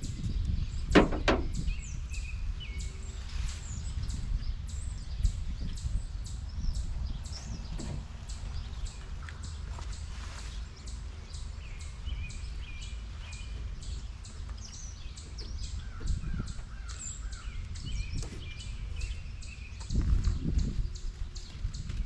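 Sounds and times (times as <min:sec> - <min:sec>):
birds calling and chirping: 0:00.0 - 0:22.0
wind buffeting microphone: 0:00.0 - 0:22.0.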